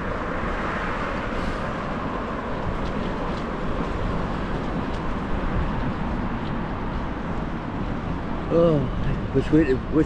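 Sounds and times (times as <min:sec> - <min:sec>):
road noise: 0:00.0 - 0:10.0
wind buffeting microphone: 0:00.0 - 0:10.0.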